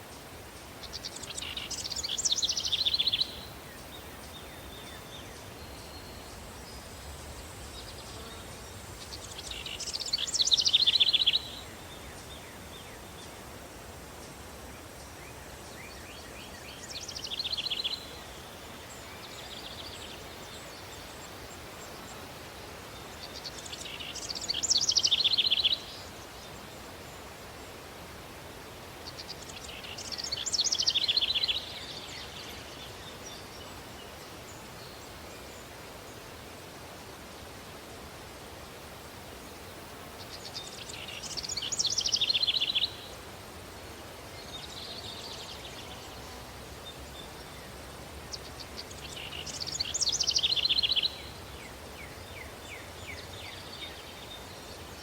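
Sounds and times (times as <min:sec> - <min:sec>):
steady breeze: 0:00.0 - 0:55.0.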